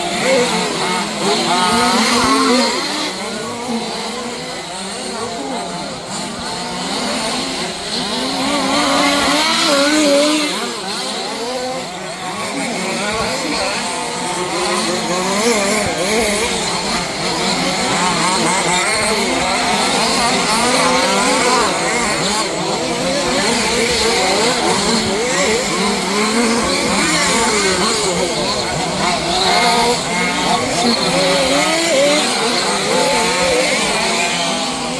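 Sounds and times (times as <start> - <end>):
rc car engines revving: 0.0 - 34.9.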